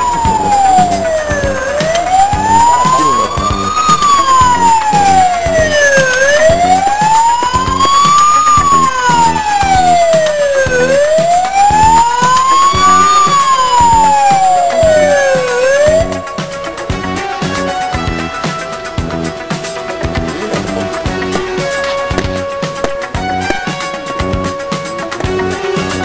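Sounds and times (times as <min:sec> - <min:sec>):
music with steady beat: 0:00.0 - 0:26.0
siren wailing: 0:00.0 - 0:26.0.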